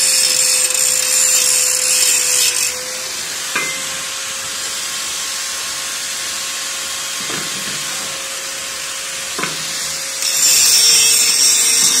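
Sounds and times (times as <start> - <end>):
angle grinder whine: 0.0 - 12.0
grinder grinding steel: 0.0 - 12.0.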